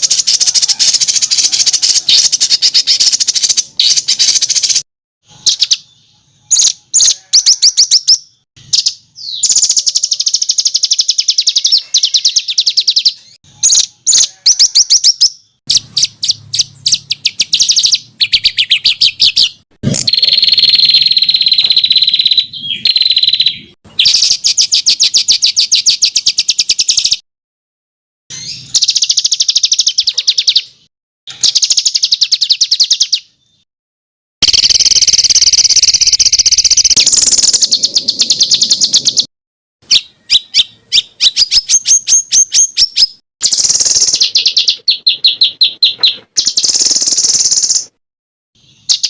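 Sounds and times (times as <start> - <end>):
songbird singing trills: 0.0 - 27.2, 28.3 - 33.6, 34.4 - 48.0.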